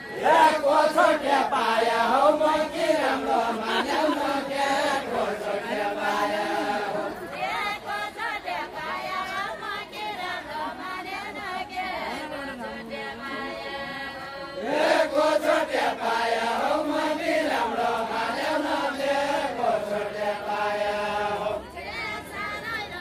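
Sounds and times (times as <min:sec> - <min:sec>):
chorus of voices singing: 0:00.0 - 0:22.6
group chanting folk song: 0:00.0 - 0:22.6.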